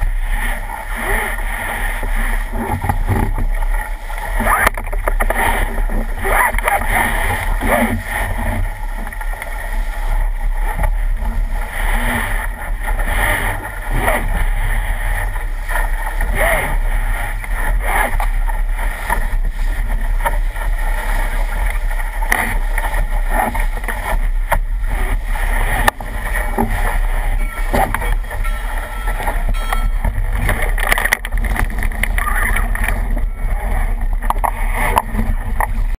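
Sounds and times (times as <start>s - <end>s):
water splashing along hull: 0.0s - 36.0s
wind rumble on microphone: 0.0s - 36.0s.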